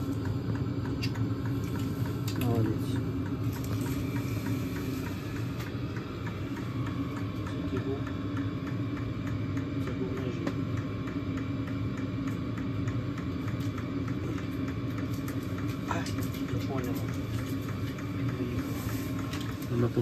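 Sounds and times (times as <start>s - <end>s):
blower fan humming: 0.0s - 20.0s.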